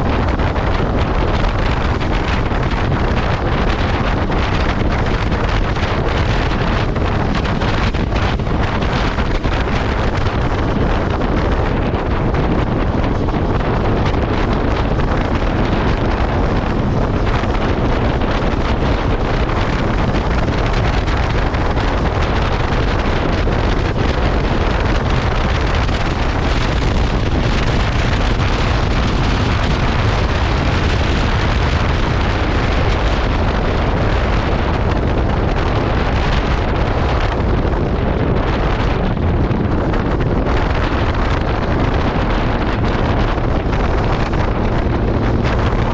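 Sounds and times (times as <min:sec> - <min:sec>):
loud wind over microphone: 0:00.0 - 0:45.9
motorcycle engine running: 0:00.0 - 0:45.9.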